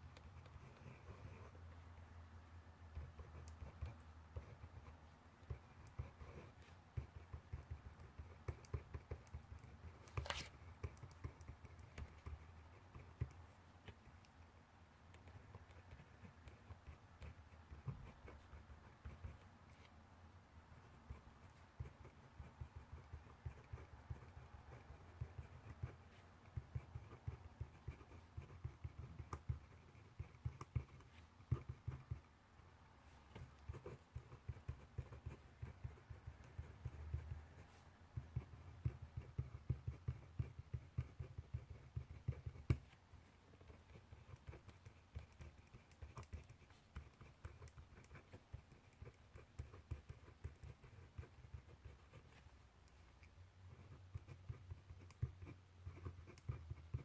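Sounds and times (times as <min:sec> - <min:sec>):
pen scratching on paper: 0:00.0 - 0:01.9, 0:02.8 - 0:14.4, 0:15.0 - 0:20.0, 0:20.7 - 0:32.4, 0:33.0 - 0:57.0.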